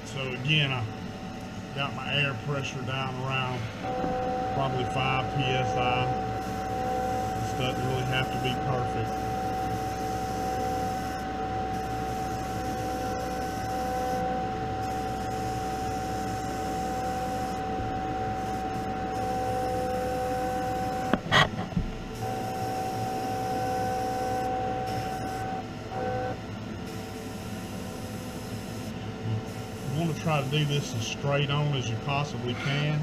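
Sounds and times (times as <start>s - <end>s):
exhaust fan humming and whining: 0.0s - 33.0s.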